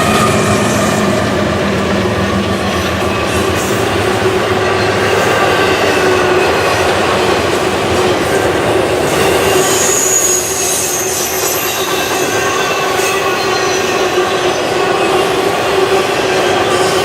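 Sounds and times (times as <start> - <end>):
high wheel squeal: 0.0 - 1.6, 2.8 - 17.0
freight train wheels rumbling: 0.0 - 17.0.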